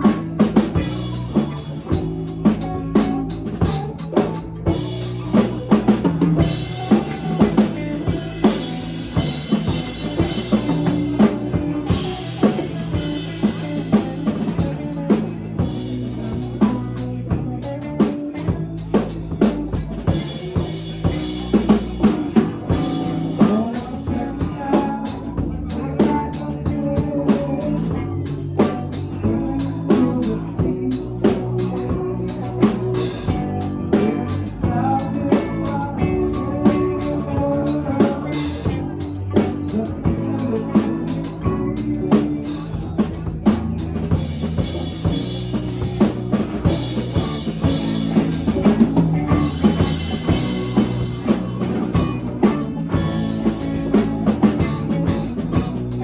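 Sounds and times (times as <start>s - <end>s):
drum kit beat: 0.0s - 56.0s
live band playing: 0.0s - 56.0s.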